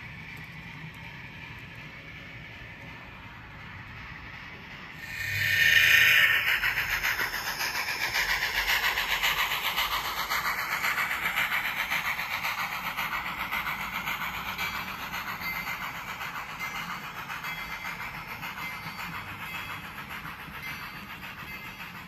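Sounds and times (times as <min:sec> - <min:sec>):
model locomotive steam chuffing: 0:00.0 - 0:22.0
model train wheels on track: 0:00.0 - 0:22.0.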